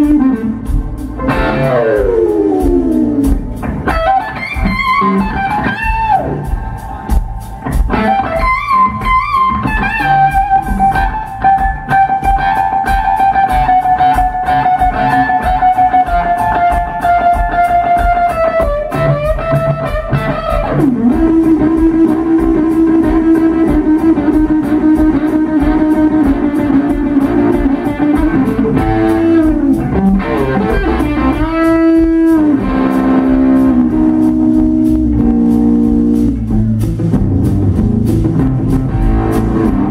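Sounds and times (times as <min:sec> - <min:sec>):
drums keeping a beat: 0:00.0 - 0:39.9
electric bass: 0:00.0 - 0:39.9
electric guitar soloing: 0:00.0 - 0:39.9.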